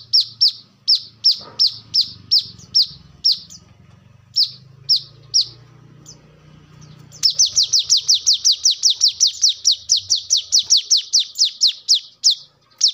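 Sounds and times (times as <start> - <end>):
sunbird calling: 0.0 - 12.9.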